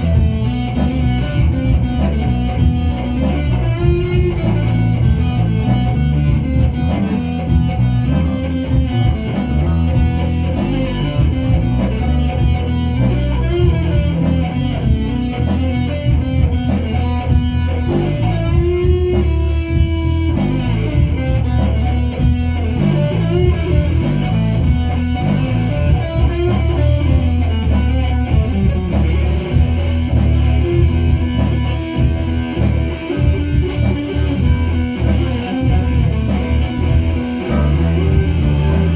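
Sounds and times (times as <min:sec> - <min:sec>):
bass guitar: 0:00.0 - 0:38.9
electric guitar: 0:00.0 - 0:38.9.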